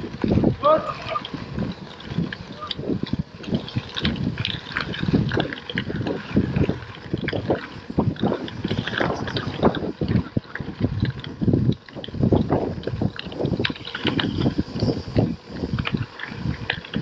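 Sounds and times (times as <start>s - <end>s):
tyres rolling over gravel: 0.0s - 17.0s
wind buffeting microphone: 0.0s - 17.0s.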